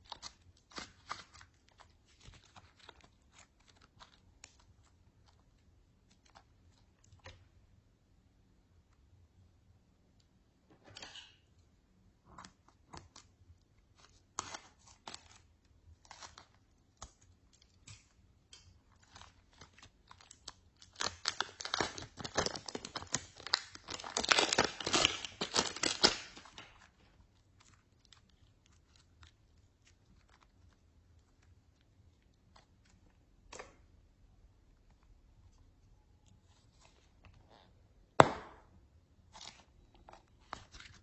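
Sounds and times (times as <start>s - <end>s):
slime crackling by hand: 0.0s - 7.7s, 12.1s - 41.0s.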